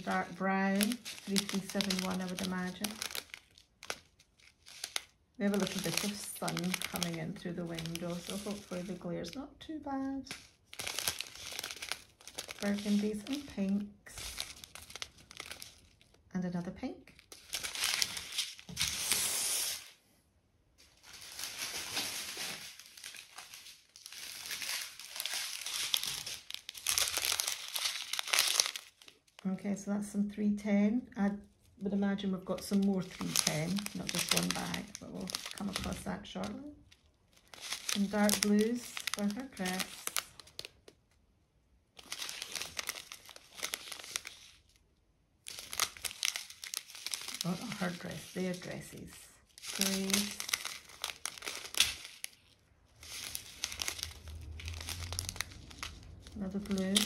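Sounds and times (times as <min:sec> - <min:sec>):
plastic bags crinkling: 0:00.0 - 0:16.3, 0:17.1 - 0:19.9, 0:20.8 - 0:29.6, 0:31.3 - 0:41.1, 0:41.9 - 0:44.8, 0:45.4 - 0:57.0.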